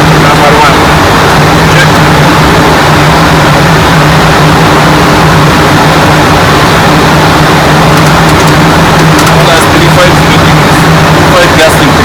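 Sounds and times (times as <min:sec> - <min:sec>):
engine and airflow rush: 0:00.0 - 0:12.0
low hum: 0:00.0 - 0:12.0.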